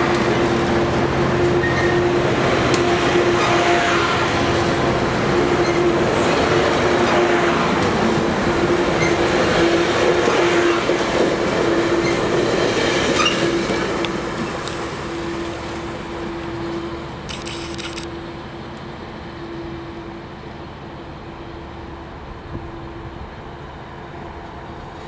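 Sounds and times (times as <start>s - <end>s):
train wheels on rail: 0.0s - 25.0s.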